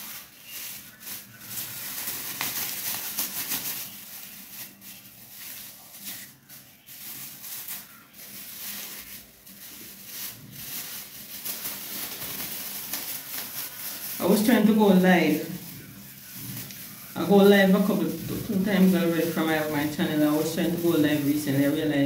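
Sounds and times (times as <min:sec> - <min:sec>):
plastic gloves crinkling: 0:00.0 - 0:22.0.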